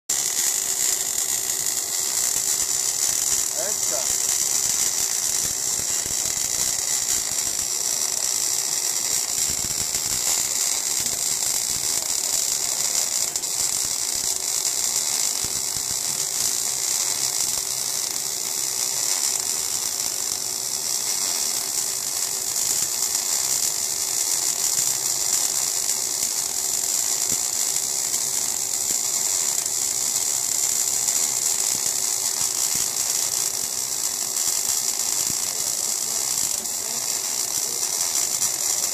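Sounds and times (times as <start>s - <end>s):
welding arc crackling buzz: 0.1s - 38.9s.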